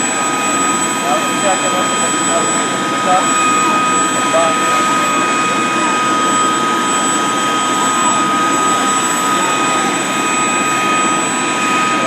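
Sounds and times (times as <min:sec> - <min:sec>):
helicopter engines roaring: 0:00.0 - 0:12.0
high constant whine: 0:00.0 - 0:12.0.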